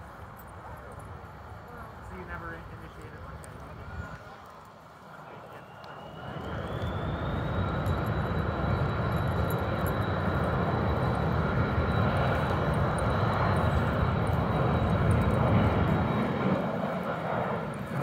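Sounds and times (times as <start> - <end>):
airplane rumble with high whine: 0.0 - 18.0.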